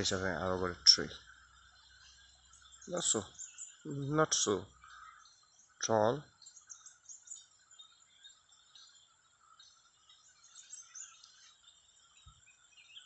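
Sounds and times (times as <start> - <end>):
birds and insects chirping: 0.0 - 13.0.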